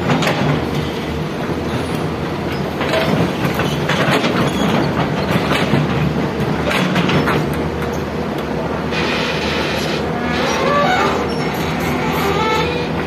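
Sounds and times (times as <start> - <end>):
heavy machinery rumbling: 0.0 - 13.0.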